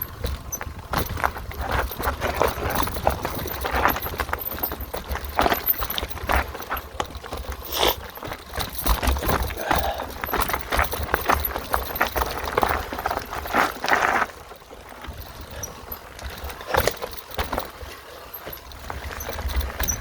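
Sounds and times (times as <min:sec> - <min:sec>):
mountain bike rattling over trail: 0:00.0 - 0:20.0.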